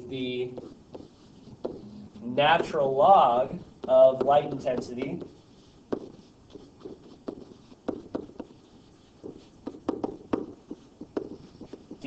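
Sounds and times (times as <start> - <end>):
stylus tapping and scratching: 0.0 - 12.0.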